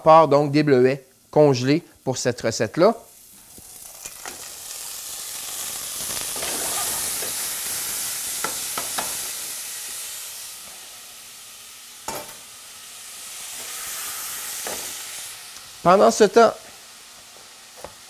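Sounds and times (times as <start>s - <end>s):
berries sizzling in a saucepan: 0.1s - 18.0s.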